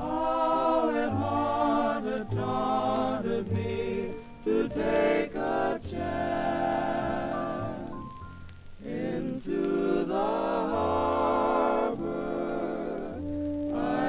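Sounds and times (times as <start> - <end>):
song with sung vocals: 0.0 - 14.0.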